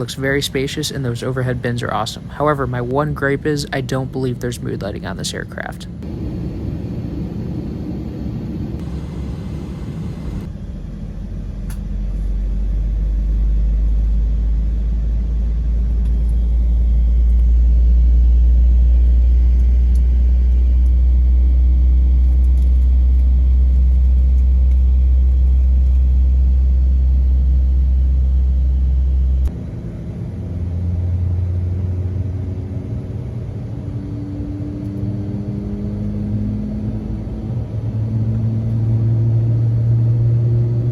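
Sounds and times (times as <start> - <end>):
deep aircraft cabin rumble: 0.0 - 40.9.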